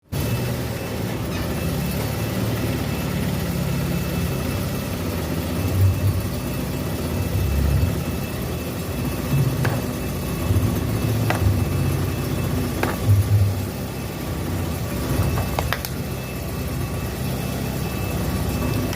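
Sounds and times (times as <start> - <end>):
car engine running at low revs: 0.0 - 18.9.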